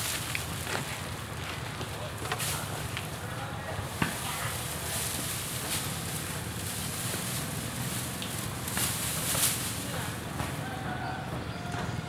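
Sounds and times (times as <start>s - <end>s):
dry grass thatch rustling: 0.0s - 11.2s.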